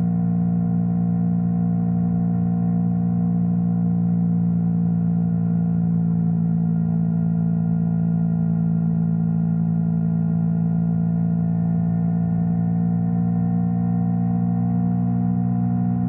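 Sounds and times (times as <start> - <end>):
motorcycle engine humming steadily: 0.0 - 16.0.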